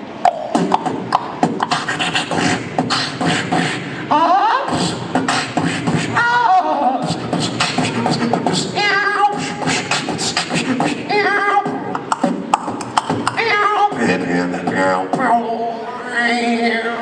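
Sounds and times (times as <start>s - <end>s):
beatboxing drum hits: 0.0s - 15.4s
warbling vocal tone: 0.0s - 17.0s.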